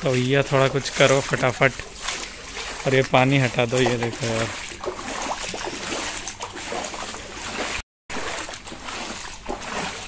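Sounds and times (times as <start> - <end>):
footsteps splashing through water: 0.0 - 10.0.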